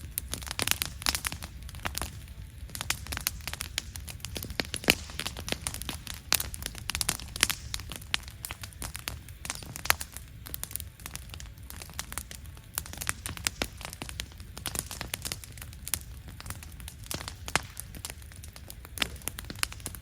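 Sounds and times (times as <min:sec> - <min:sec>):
campfire crackling: 0:00.0 - 0:20.0
low steady rumble: 0:00.0 - 0:20.0.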